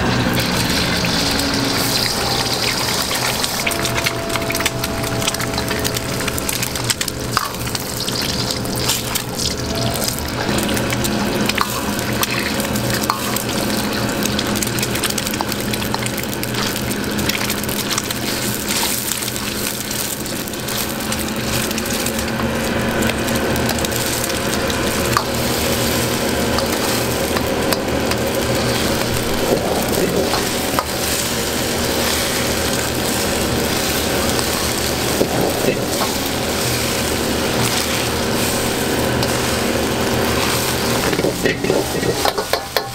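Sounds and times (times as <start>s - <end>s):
low hum: 0.0s - 42.4s
eggs sizzling in hot oil: 0.0s - 42.9s
metal ladle stirring in wok: 0.1s - 42.9s.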